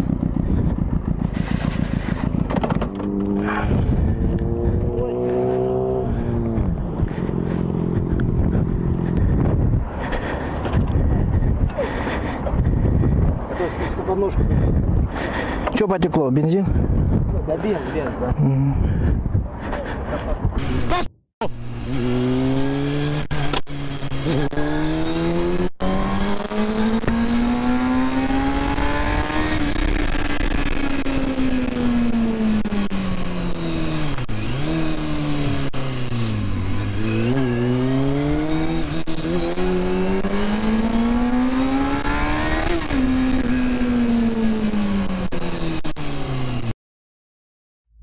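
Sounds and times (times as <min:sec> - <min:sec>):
motorcycle engine revving: 0:00.0 - 0:13.7, 0:20.6 - 0:46.8.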